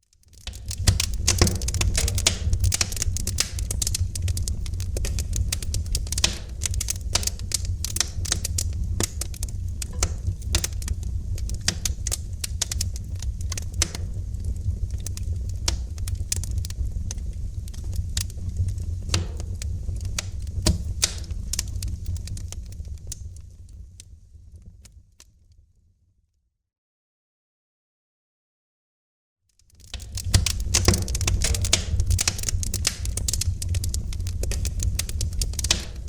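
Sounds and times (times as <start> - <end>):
wood fire crackling and popping: 0.1 - 25.3, 29.5 - 36.0
low rumble of flames: 0.2 - 25.7, 29.6 - 36.0.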